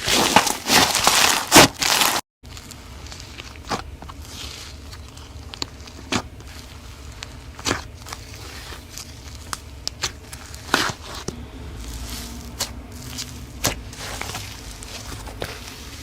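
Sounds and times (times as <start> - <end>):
low steady hum: 2.5 - 16.0.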